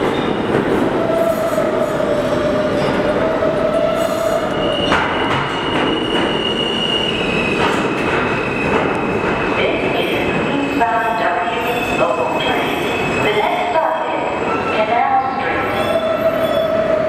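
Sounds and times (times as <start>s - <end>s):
subway train whine: 0.0s - 17.0s.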